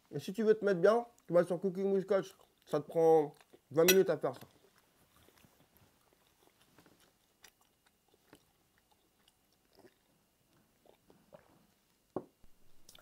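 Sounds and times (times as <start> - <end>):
faint chewing: 2.0 - 13.0.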